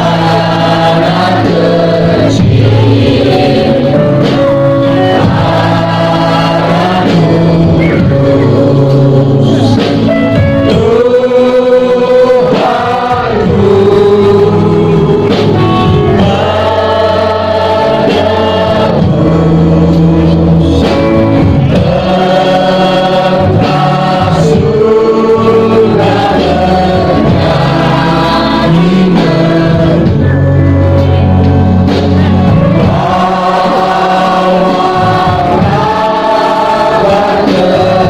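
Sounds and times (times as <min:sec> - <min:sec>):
choir singing long notes: 0:00.0 - 0:38.0
low accompaniment: 0:00.0 - 0:38.0.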